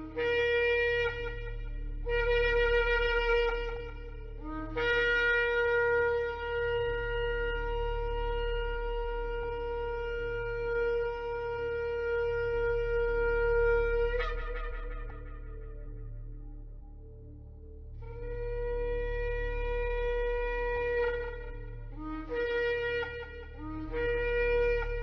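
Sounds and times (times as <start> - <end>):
shofar blasts: 0.0 - 16.2, 18.0 - 25.0.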